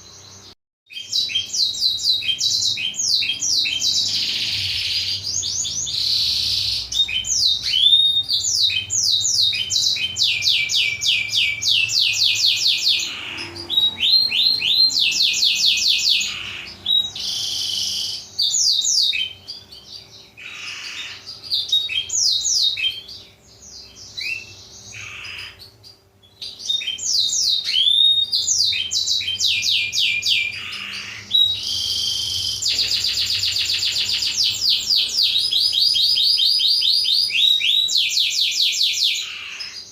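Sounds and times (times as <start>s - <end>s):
canary singing trills: 0.0s - 39.9s
faint steady hum: 0.0s - 39.9s.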